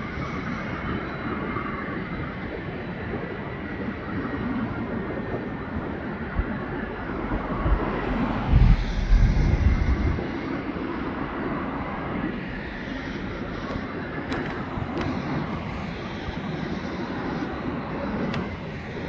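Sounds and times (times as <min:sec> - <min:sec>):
high turbine whine: 0:00.0 - 0:19.0
jet engines roaring: 0:00.0 - 0:19.0
wind buffeting microphone: 0:00.0 - 0:19.0.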